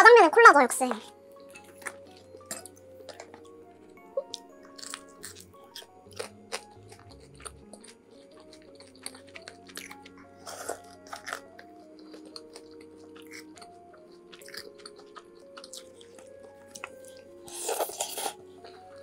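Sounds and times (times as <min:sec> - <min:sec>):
light background music: 0:00.0 - 0:19.0
crunching crispy fried food: 0:01.3 - 0:19.0.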